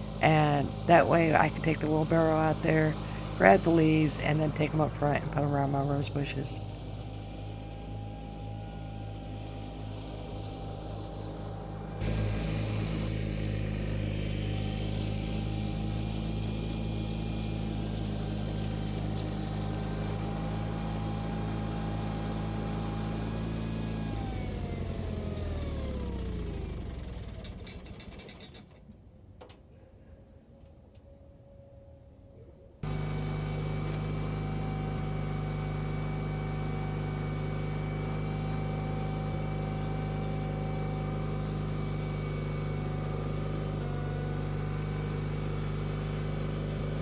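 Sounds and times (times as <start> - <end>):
lawn tractor engine running: 0.0 - 28.8, 32.8 - 47.0.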